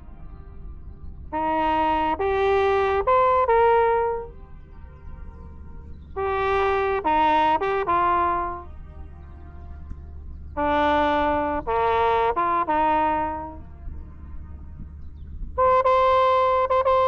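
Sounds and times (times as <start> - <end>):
low steady rumble: 0.0 - 17.0
solo brass horn melody: 0.0 - 17.0.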